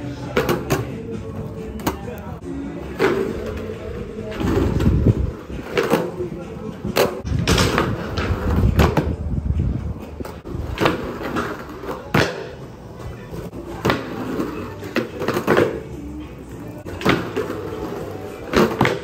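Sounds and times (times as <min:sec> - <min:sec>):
skateboard decks clacking: 0:00.0 - 0:19.0
skateboard wheels rumbling: 0:00.0 - 0:19.0.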